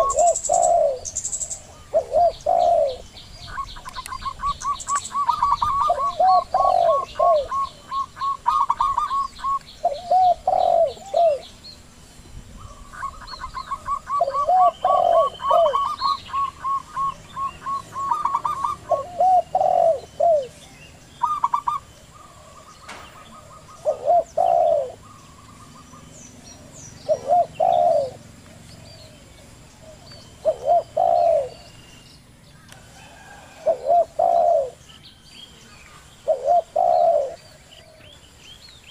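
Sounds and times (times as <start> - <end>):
low dove coos: 0.0 - 11.6, 12.5 - 31.9, 32.7 - 34.9, 35.6 - 38.2.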